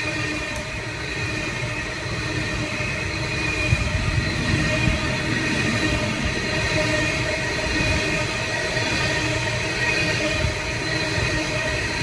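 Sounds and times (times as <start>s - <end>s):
high wheel squeal: 0.0s - 12.0s
train wheels rumbling on track: 0.0s - 12.0s.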